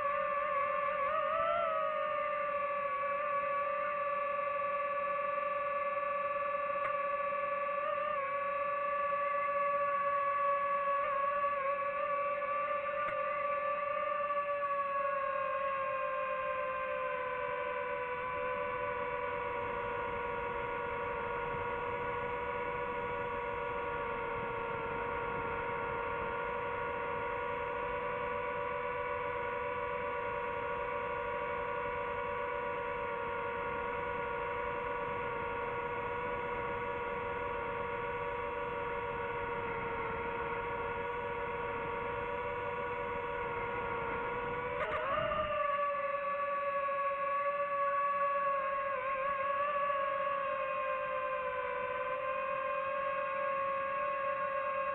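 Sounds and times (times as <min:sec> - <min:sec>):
drone propellers whining: 0:00.0 - 0:54.9.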